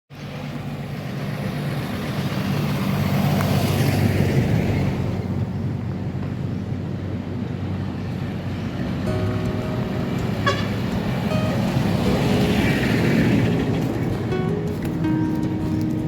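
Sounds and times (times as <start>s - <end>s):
vehicle engine running: 0.1s - 16.0s
passing vehicle hiss: 0.2s - 16.0s.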